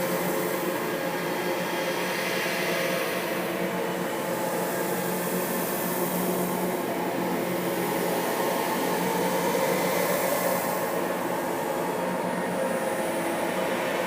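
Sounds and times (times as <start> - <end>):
eerie hissing drone: 0.0 - 14.0.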